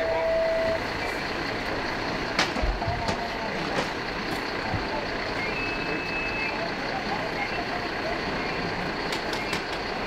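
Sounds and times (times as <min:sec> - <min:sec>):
fire engine running: 0:00.0 - 0:10.0.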